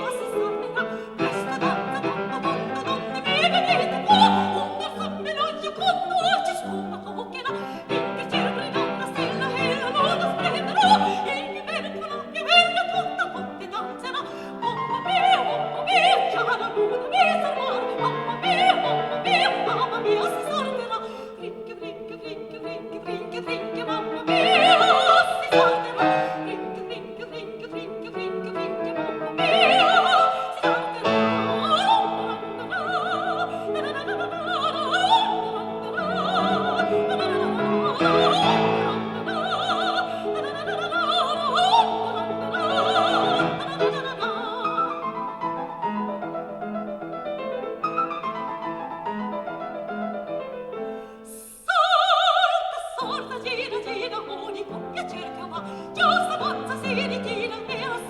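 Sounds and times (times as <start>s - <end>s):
operatic singing with orchestra: 0.0s - 49.9s, 50.7s - 58.0s.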